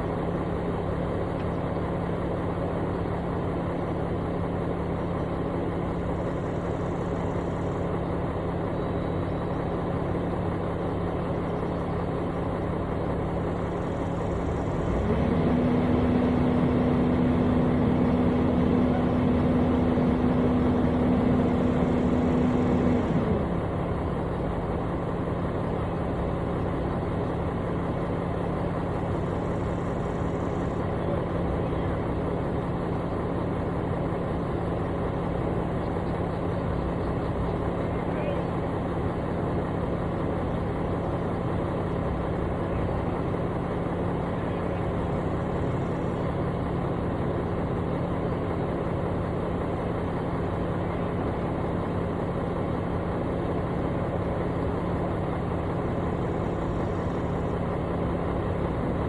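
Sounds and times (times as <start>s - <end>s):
construction machine engine running: 0.0s - 59.0s.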